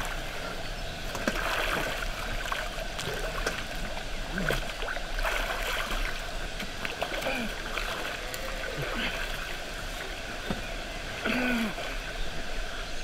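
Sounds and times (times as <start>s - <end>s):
running water stream: 0.0s - 13.0s.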